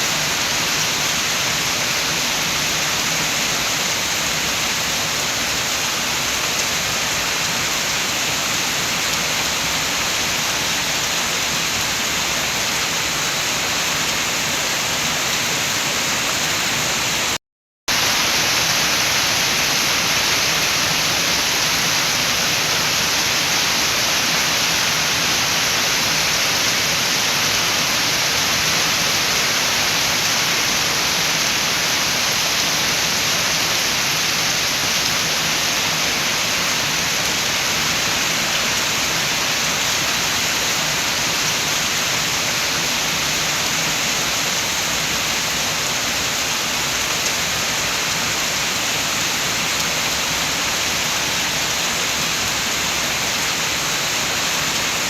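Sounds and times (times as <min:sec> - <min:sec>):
heavy rain with wind: 0:00.0 - 0:55.0.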